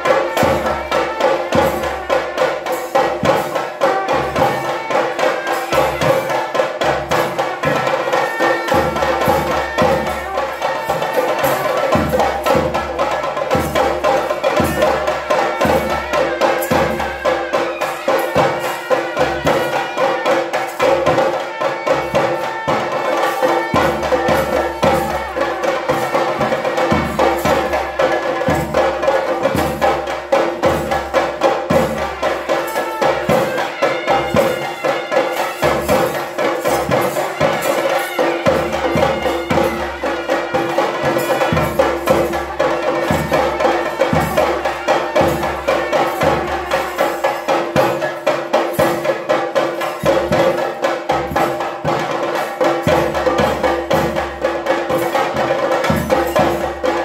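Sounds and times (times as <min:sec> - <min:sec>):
clashing metal hand cymbals: 0:00.0 - 0:57.0
rapid drum beating: 0:00.0 - 0:57.0.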